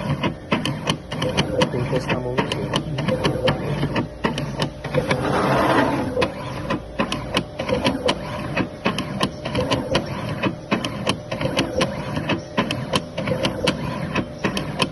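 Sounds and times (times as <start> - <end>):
machine motor hum: 0.0 - 14.9
sharp mechanical clicks: 0.0 - 14.9.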